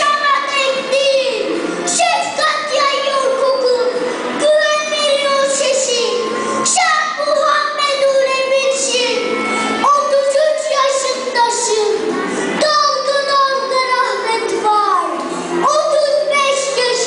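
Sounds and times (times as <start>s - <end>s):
boy chanting through microphone: 0.0s - 17.0s.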